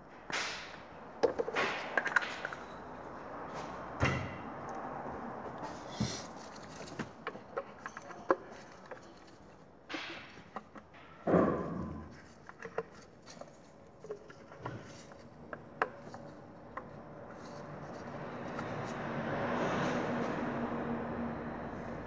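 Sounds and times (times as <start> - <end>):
clicks and knocks of engine parts: 0.0 - 19.0.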